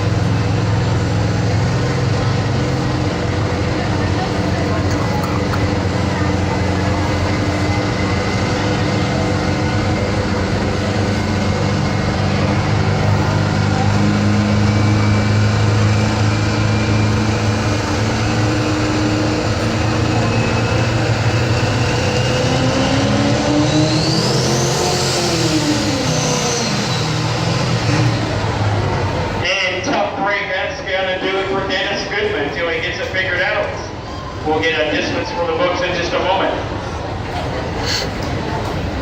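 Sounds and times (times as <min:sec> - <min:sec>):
diesel engine running hard: 0:00.0 - 0:39.0.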